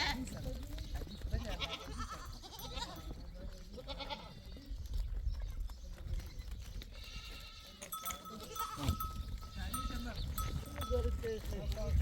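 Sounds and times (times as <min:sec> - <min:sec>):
goats bleating: 0:00.0 - 0:05.6, 0:06.2 - 0:12.0.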